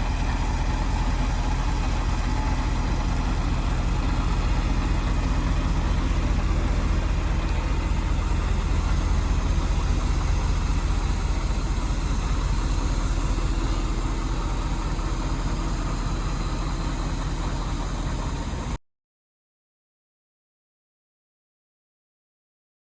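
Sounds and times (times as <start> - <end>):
diesel truck engine idling: 0.0 - 18.8.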